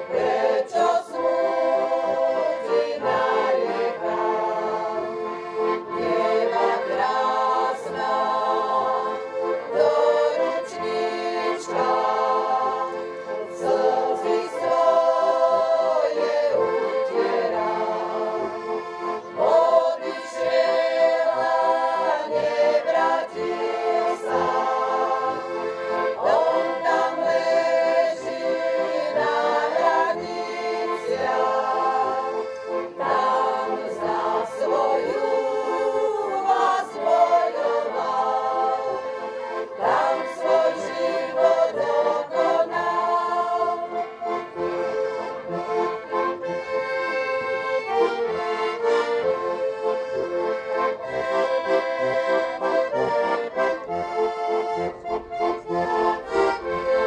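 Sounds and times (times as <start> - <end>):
group singing: 0.0 - 46.2, 50.5 - 54.2
accordion music: 0.0 - 57.0.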